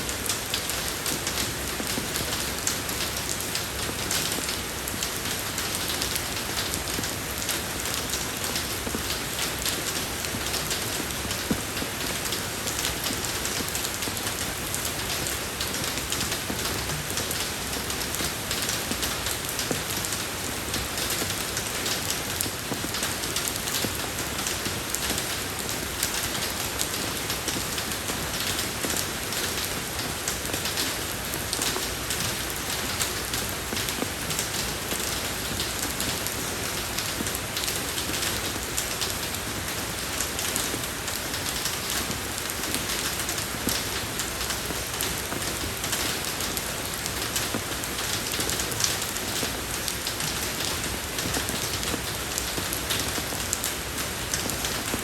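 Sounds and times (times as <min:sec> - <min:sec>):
soft rain on a road: 0:00.0 - 0:55.0.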